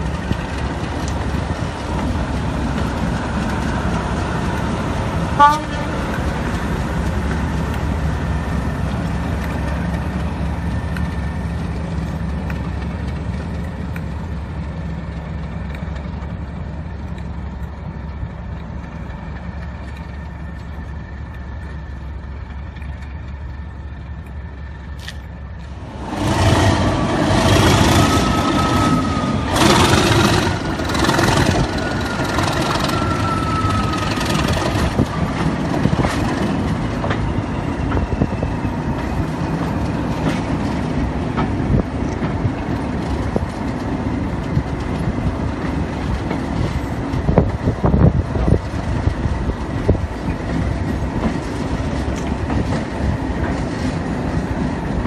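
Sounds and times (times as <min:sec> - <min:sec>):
diesel locomotive engine: 0:00.0 - 0:55.0
wheels clicking over rail joints: 0:00.0 - 0:55.0.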